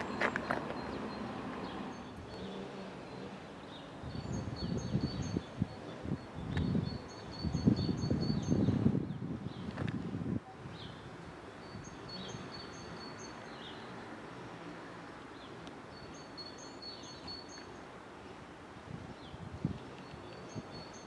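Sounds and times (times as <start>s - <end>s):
songbird chirping: 0.0s - 9.9s, 10.6s - 18.0s, 19.2s - 21.0s
faint outdoor background noise: 0.0s - 21.0s.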